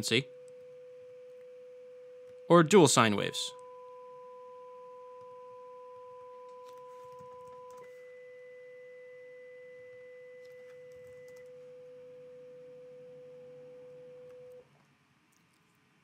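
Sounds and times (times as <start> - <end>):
sine wave test tone: 0.0 - 14.6.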